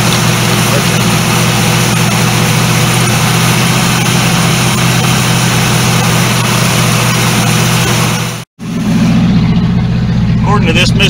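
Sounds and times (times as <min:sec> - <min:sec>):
car engine fast idle: 0:00.0 - 0:11.0
radiator fans blowing: 0:00.0 - 0:11.0.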